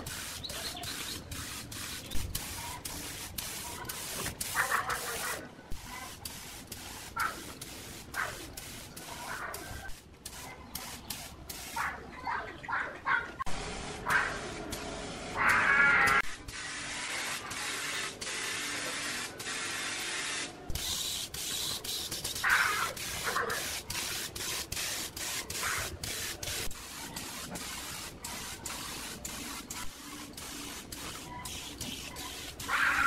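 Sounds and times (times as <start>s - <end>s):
paint spray gun hissing: 0.0s - 11.9s, 13.5s - 33.0s.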